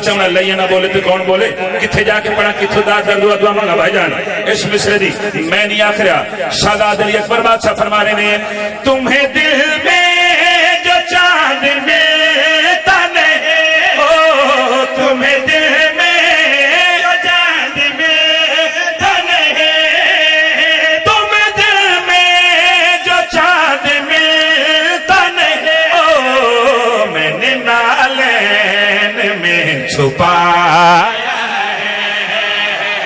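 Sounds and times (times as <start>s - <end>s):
men chanting through microphones: 0.0s - 33.0s.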